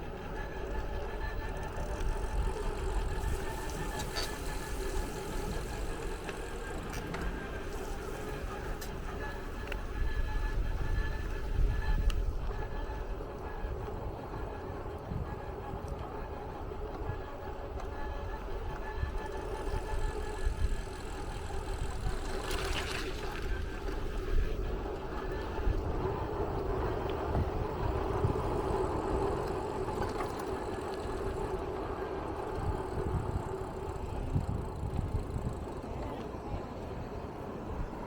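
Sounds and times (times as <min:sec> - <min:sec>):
squeaky whine: 0:00.0 - 0:36.6
vehicle rumbling: 0:00.0 - 0:38.0.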